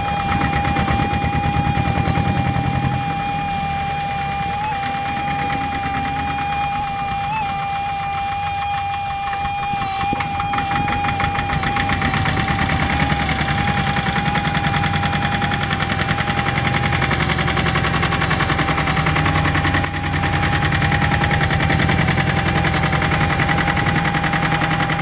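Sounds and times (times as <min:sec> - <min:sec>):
diesel tractor engine running: 0:00.0 - 0:25.0
steady high-pitched whine: 0:00.0 - 0:25.0.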